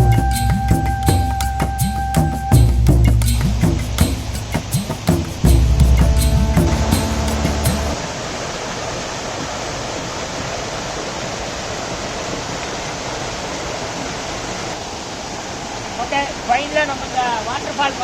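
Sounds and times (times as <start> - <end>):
waterfall rushing: 0.9 - 18.0.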